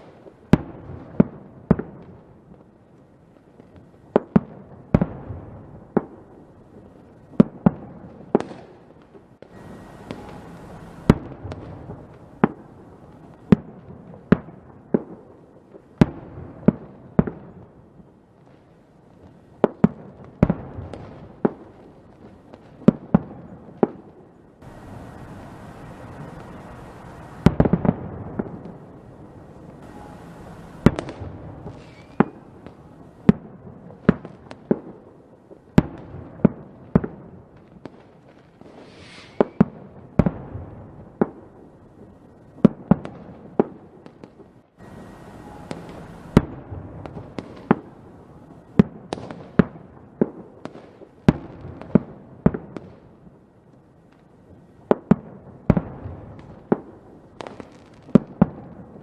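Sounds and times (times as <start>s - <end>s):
fireworks bangs: 0.0s - 2.7s, 3.6s - 17.8s, 18.5s - 53.3s, 54.5s - 59.0s
fireworks crackling: 0.0s - 59.0s.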